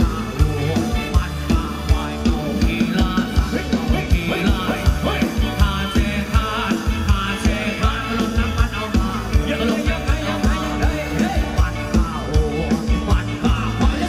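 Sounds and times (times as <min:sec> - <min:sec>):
fast drum beat: 0:00.0 - 0:14.0
live band playing: 0:00.0 - 0:14.0
person singing: 0:00.0 - 0:14.0.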